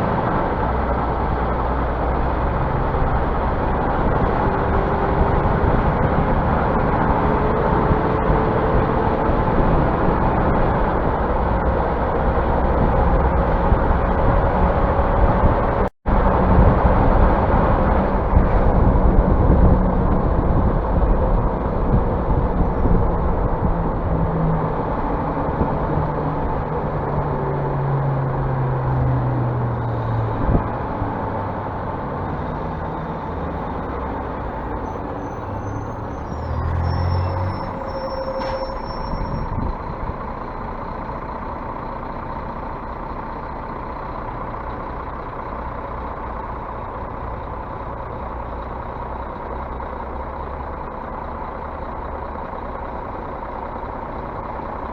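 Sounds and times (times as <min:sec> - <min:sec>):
bus diesel engine running: 0:00.0 - 0:54.9.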